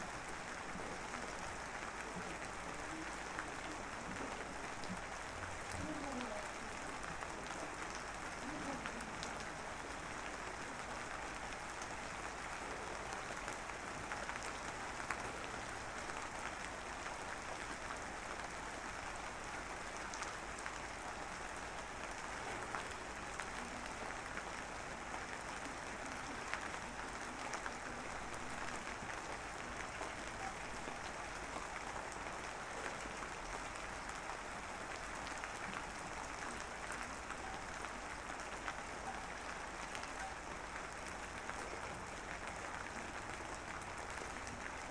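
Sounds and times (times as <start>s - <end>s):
light rain drizzling: 0.0s - 44.9s.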